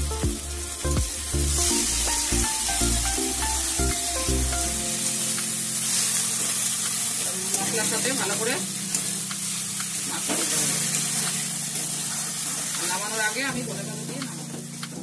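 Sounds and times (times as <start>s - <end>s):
fish and masala sizzling: 0.0s - 15.0s.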